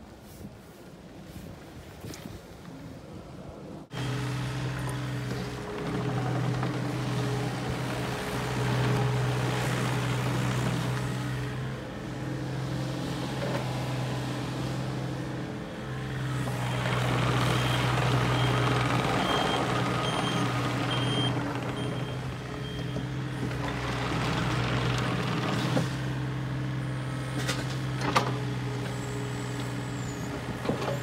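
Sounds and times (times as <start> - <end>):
excavator diesel engine running: 3.9 - 31.0
hydraulic and track noise: 3.9 - 31.0.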